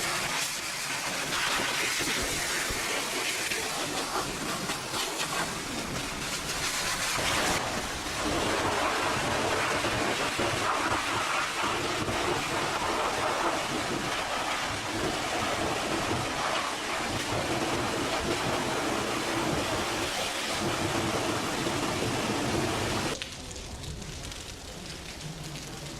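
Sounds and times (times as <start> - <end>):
high-pressure water spray hissing: 0.0 - 23.2.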